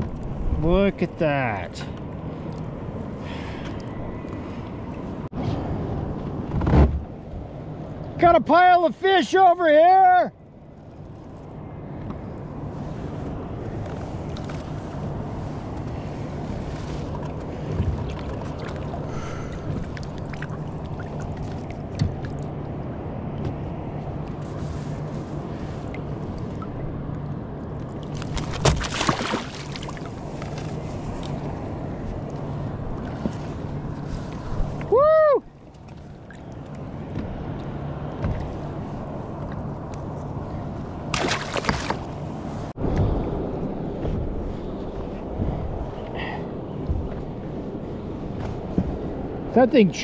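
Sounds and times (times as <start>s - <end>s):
water lapping against hull: 0.0s - 8.2s, 10.4s - 50.0s.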